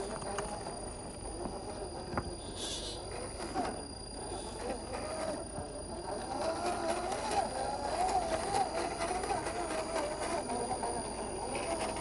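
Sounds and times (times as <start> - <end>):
rc car motor whining: 0.0 - 12.0.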